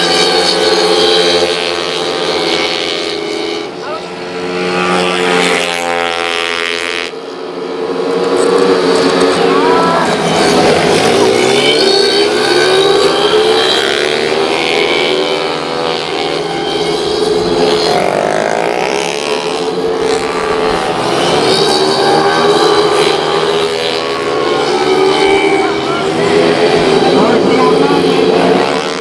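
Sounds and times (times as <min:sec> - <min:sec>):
scooter engines revving and passing: 0:00.0 - 0:29.0.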